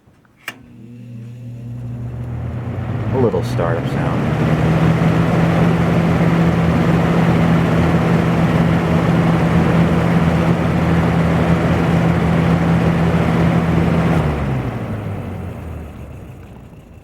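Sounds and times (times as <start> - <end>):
electric fan running: 0.0 - 15.6.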